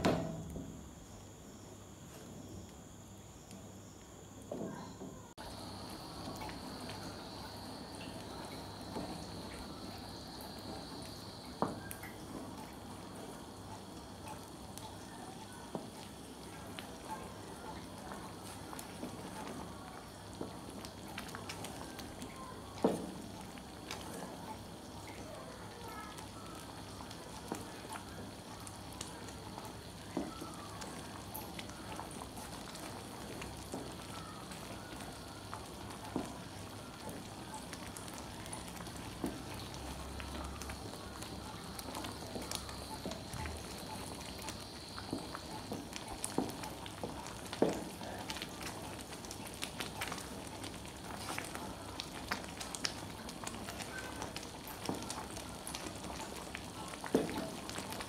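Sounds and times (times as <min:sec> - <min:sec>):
syrup simmering in a pan: 0:00.1 - 0:58.0
wooden spoon stirring: 0:05.4 - 0:58.0.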